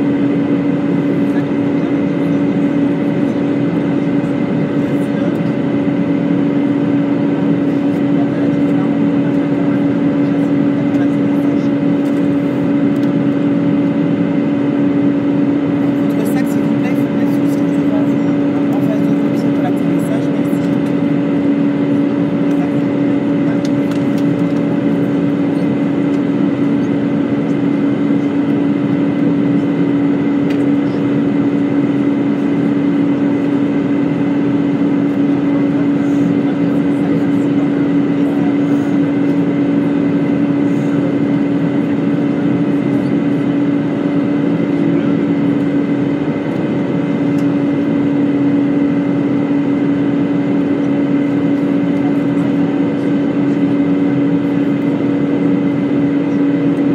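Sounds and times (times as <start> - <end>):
aircraft engine drone: 0.0 - 56.9.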